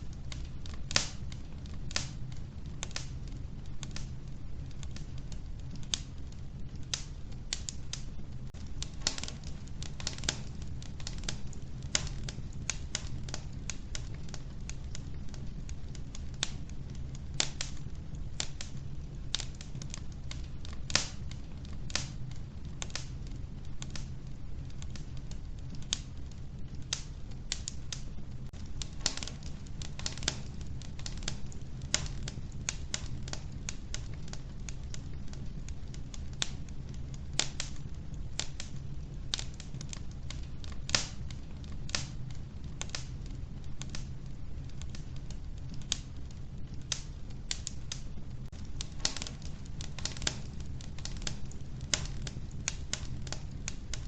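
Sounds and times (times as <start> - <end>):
fire rumbling in stove: 0.0 - 54.0
logs crackling and popping: 0.0 - 54.0.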